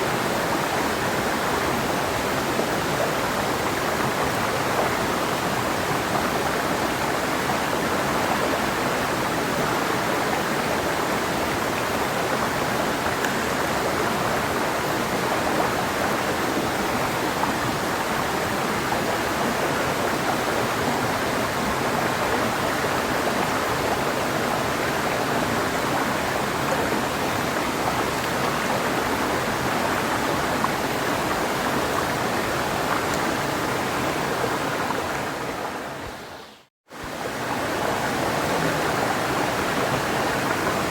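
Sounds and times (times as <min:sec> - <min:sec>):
river flowing over rocks: 0:00.0 - 0:36.3, 0:37.0 - 0:40.9.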